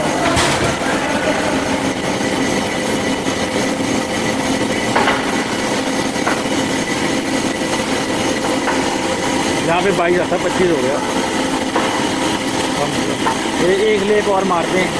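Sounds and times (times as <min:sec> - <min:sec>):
band saw running: 0:00.0 - 0:14.9.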